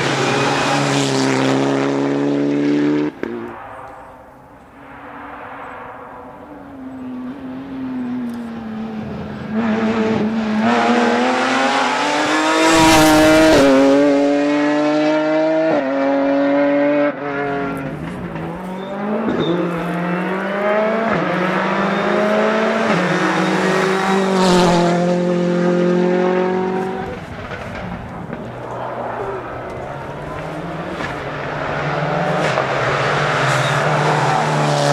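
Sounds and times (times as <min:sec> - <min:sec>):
rally car engine passing: 0:00.0 - 0:34.9.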